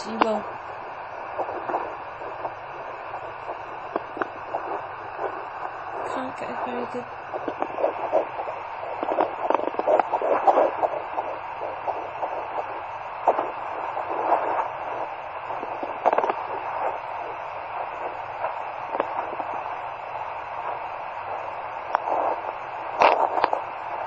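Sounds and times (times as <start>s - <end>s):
doppler speaker hiss: 0.0s - 24.0s
scratchy crackles: 0.0s - 24.0s.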